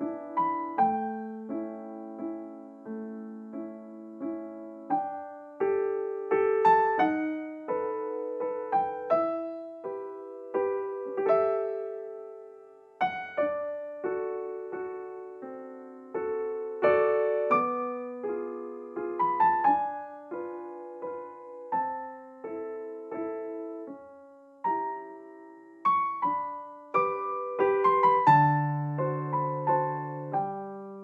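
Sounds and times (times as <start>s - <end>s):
slow gentle piano music: 0.0s - 31.0s.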